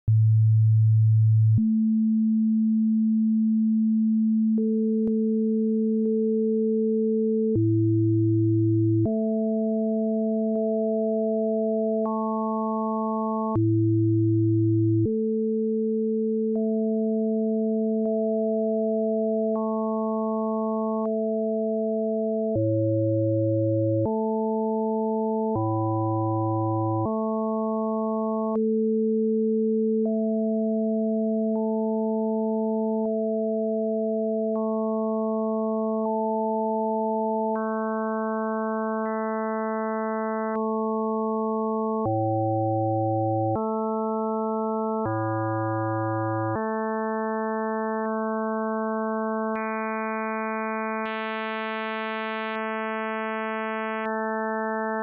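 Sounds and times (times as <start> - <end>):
synthesized sine tone chords: 0.1 - 55.0.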